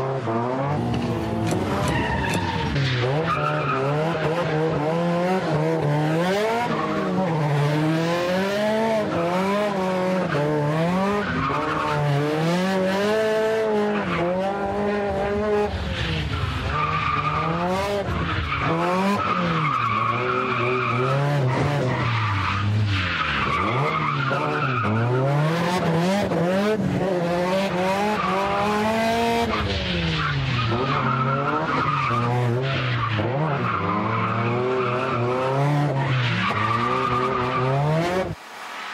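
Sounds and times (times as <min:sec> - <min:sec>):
car engine revving: 0:00.0 - 0:38.7.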